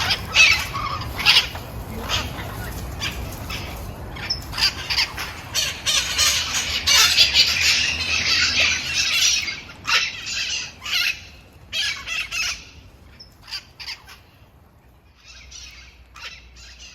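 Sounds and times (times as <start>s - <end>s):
parrots squawking: 0.0s - 14.3s, 15.2s - 16.9s.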